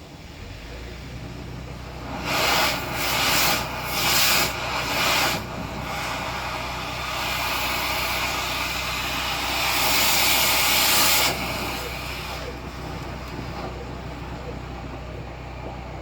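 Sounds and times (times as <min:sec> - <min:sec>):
air rushing through duct: 0:00.0 - 0:16.0
low machine hum: 0:00.0 - 0:16.0.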